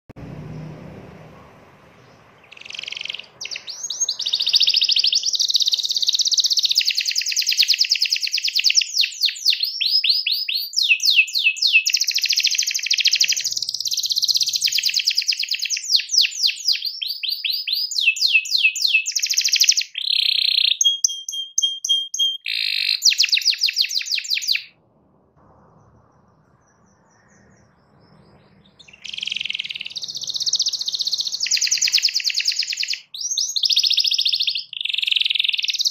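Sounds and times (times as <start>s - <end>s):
canary singing trills: 1.9s - 24.8s, 25.6s - 35.9s.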